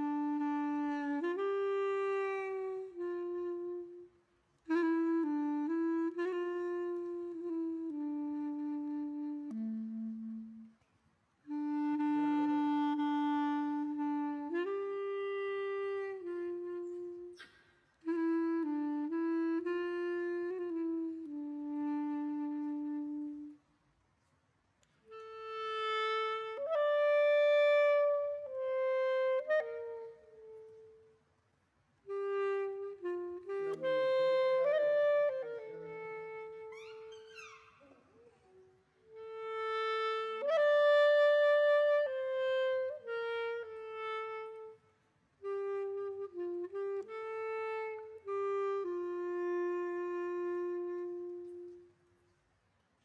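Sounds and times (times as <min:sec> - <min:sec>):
wind instrument melody: 0:00.0 - 0:23.7, 0:25.0 - 0:31.4, 0:32.0 - 0:52.4.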